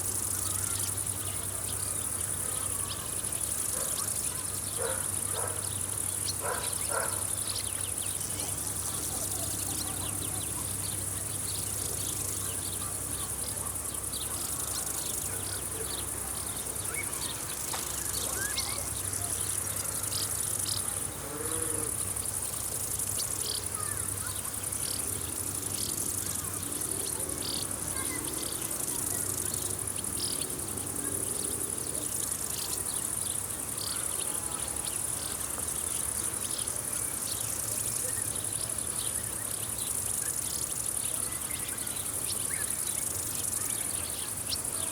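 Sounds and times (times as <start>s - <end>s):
insect chirps: 0.0s - 44.9s
insects trilling: 0.0s - 44.9s.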